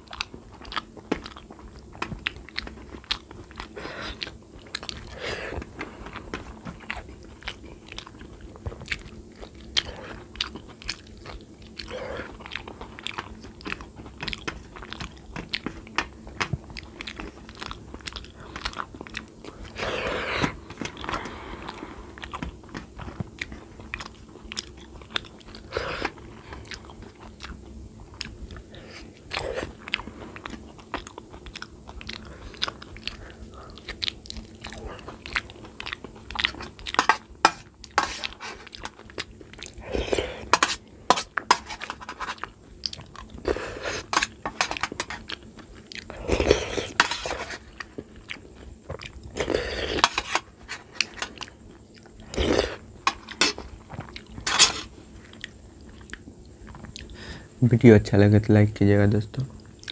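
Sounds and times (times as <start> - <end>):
person chewing: 0.0 - 57.3, 59.6 - 59.9.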